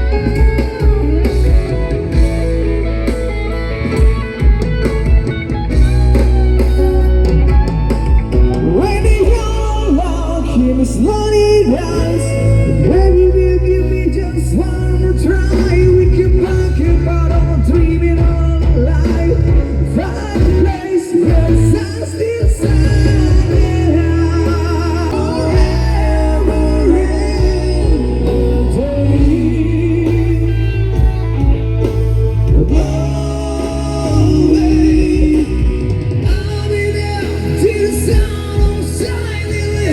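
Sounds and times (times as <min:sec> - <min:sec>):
bass guitar: 0:00.0 - 0:39.9
drums: 0:00.0 - 0:39.9
electric guitar: 0:00.0 - 0:39.9
person singing: 0:05.6 - 0:39.9.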